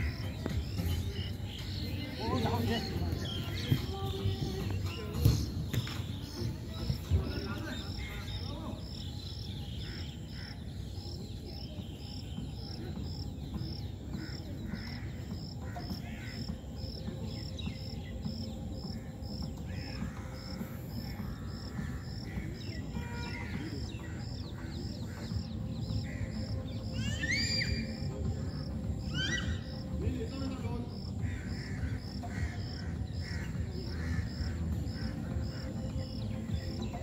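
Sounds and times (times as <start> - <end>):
bird calls: 0.0 - 37.0
insect chirping rhythmically: 0.0 - 37.0.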